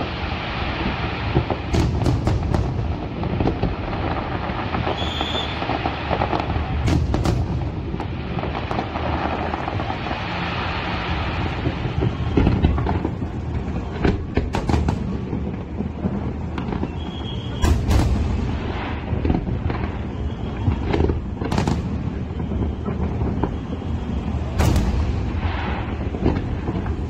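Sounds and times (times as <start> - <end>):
fireworks rumbling and crackling: 0.0 - 27.0
sharp fireworks bangs: 0.0 - 27.0.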